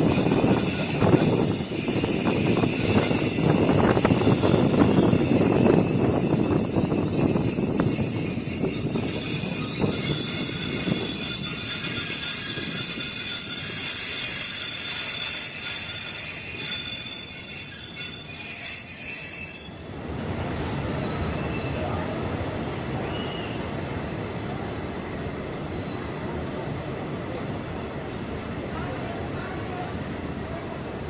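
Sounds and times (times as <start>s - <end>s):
train wheels squealing on rail: 0.0s - 31.0s.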